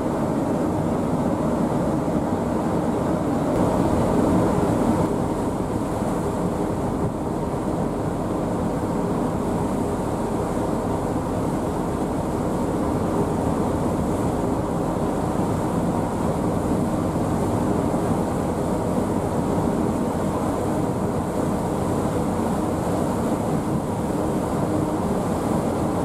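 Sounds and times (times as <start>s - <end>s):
low rumble of moving vehicle: 0.0s - 26.0s.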